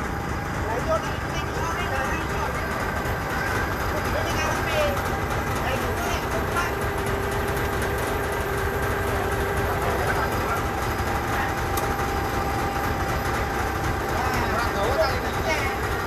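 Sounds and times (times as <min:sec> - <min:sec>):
forklift engine running: 0:00.0 - 0:16.0.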